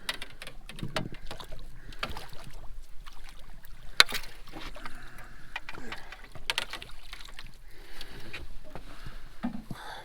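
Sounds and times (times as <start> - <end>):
fishing gear knocking and rattling: 0.0 - 2.5, 3.8 - 9.8.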